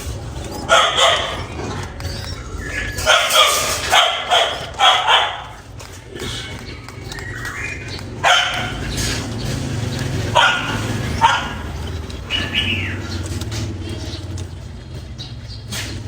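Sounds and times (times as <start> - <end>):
sharp animal calls: 0.0 - 16.0.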